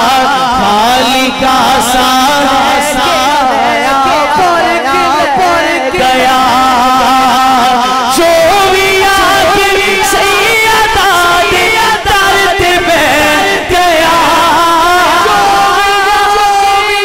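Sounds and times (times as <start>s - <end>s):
men singing devotional song: 0.0s - 17.0s.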